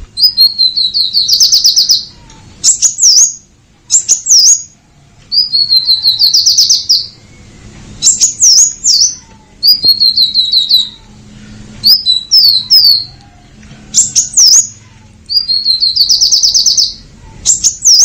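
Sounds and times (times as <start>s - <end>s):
bird singing high trills: 0.2s - 18.0s.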